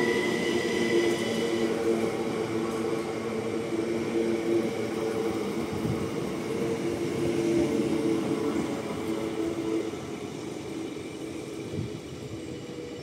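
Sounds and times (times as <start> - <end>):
electric train motor whine: 0.0 - 13.0
wheel and rail noise: 0.0 - 13.0.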